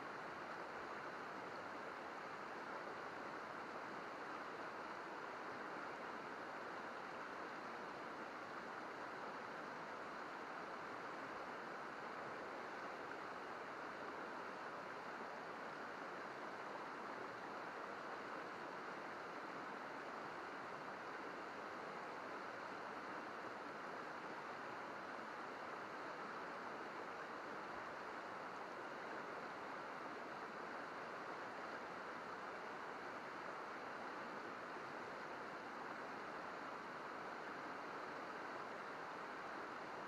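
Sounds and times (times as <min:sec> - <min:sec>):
river babbling over rocks: 0:00.1 - 0:40.0.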